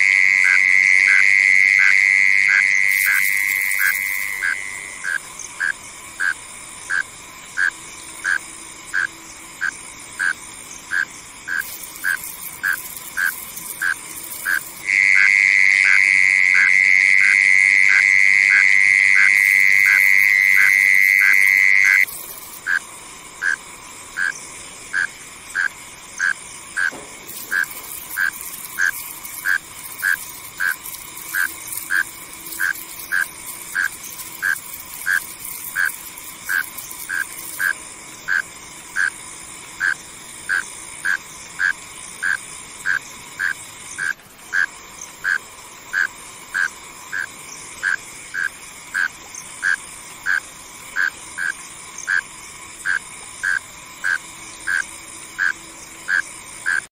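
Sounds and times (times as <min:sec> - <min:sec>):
mole cricket calling pulses: 0:00.0 - 0:56.9
night insects chorus: 0:00.0 - 0:56.9.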